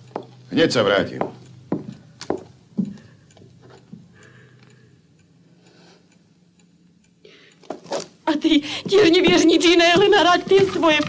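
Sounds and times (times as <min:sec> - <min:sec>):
clock ticking: 0:00.0 - 0:11.0
faint film soundtrack hum: 0:00.0 - 0:11.0.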